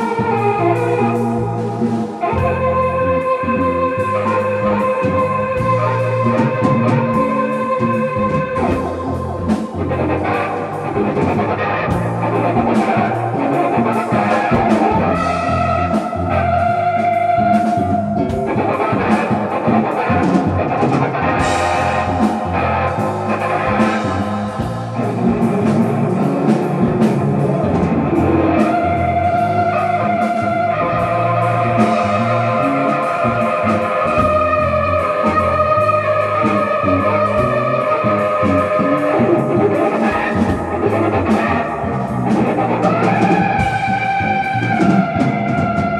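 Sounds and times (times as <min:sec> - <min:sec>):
busy drum beat: 0:00.0 - 0:45.9
fusion band with traditional instruments: 0:00.0 - 0:45.9.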